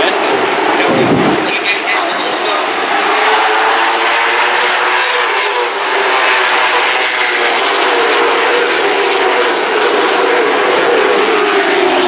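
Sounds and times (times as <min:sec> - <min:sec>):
stock car engines droning: 0:00.0 - 0:12.0.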